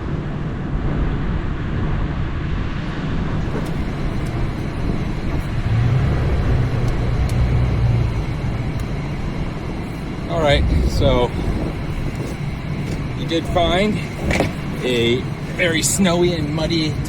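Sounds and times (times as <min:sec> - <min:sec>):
car engine droning: 0:00.0 - 0:17.0
tyre and road noise: 0:00.0 - 0:17.0.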